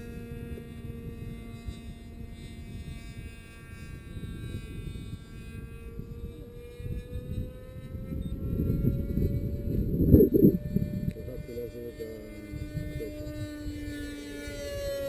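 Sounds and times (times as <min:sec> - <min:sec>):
model airplane engine whine: 0:00.0 - 0:15.0.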